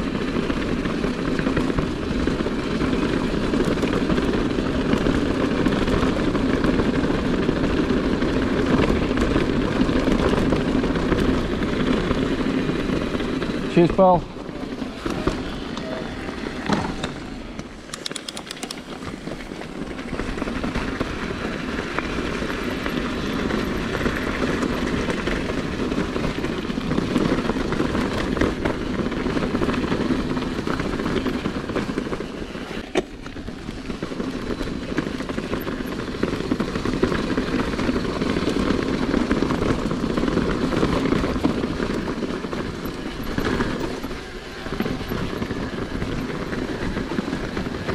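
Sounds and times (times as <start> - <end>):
bike rattling: 0.0 - 47.9
tyres crunching on stony trail: 0.1 - 47.9.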